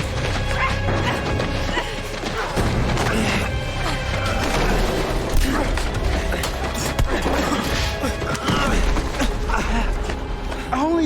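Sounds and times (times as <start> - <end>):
tense action score pulse: 0.0 - 10.8.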